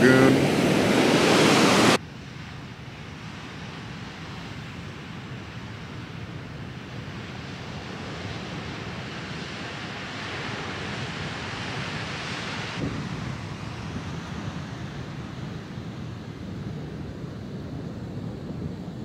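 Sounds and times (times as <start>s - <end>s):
ocean surf washing on sand: 0.0s - 19.0s
wind buffeting microphone: 0.0s - 19.0s.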